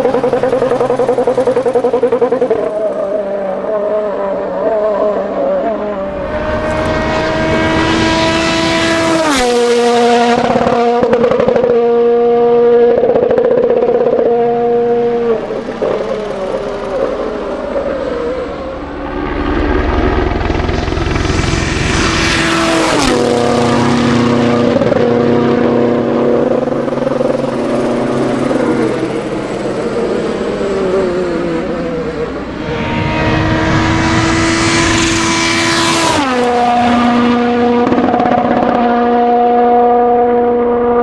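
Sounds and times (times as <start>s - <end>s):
car passing with loud rush: 0.0s - 41.0s
rally car engine at full throttle: 0.0s - 41.0s.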